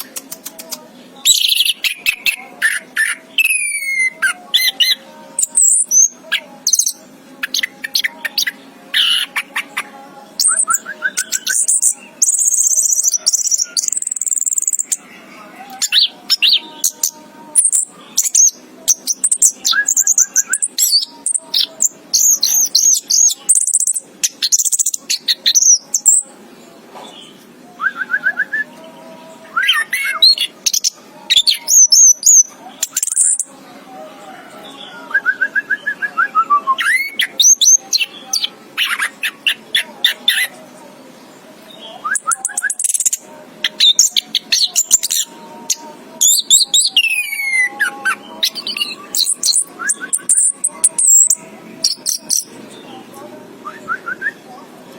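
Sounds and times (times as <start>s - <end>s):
thrush singing: 0.0s - 54.9s.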